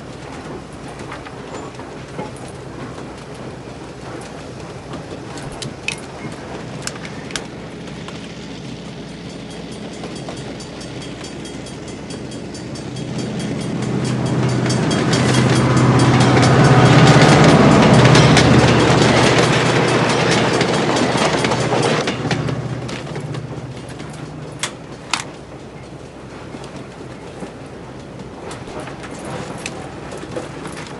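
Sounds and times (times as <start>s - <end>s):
train rumbling past: 0.0s - 30.9s
wheels clacking over rails: 0.0s - 30.9s.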